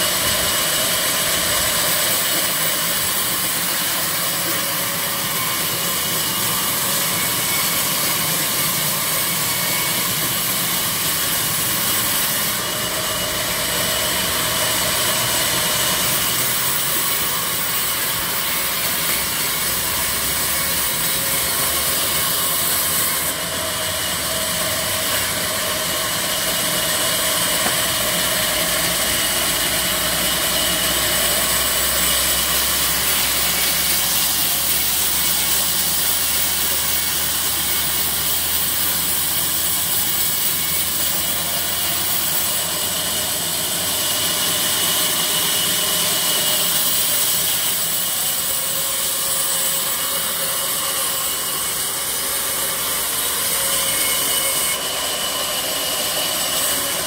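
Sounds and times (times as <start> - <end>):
circular saw running: 0.0 - 57.0.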